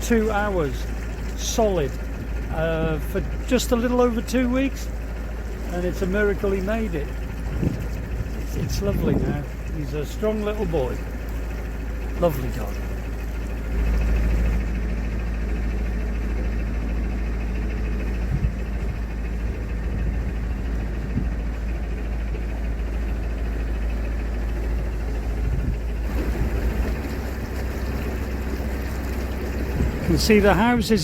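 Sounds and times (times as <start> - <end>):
boat diesel engine running: 0.0 - 31.0.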